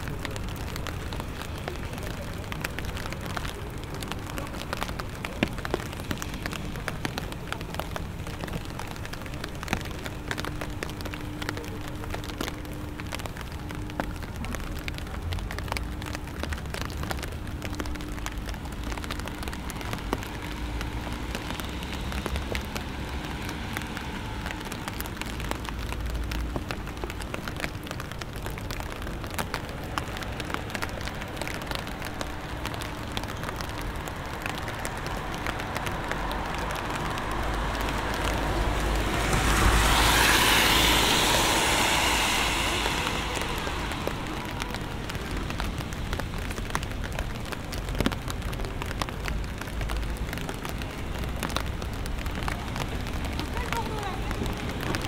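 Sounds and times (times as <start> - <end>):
car tyres hissing on wet road: 0.0 - 55.0
rain falling on street: 0.0 - 55.0
raindrops ticking: 0.0 - 55.0.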